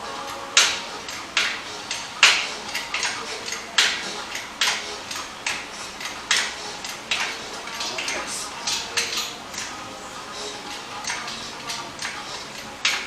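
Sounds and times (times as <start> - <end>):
hydraulic jack metallic clacks: 0.2 - 13.0.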